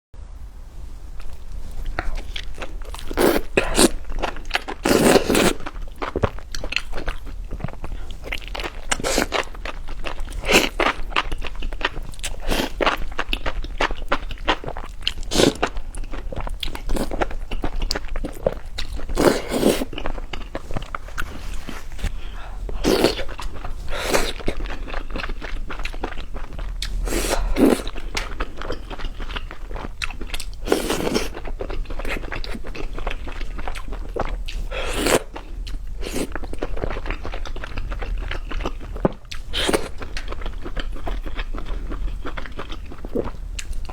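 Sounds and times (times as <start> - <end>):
chewing crunchy food: 1.1 - 43.9.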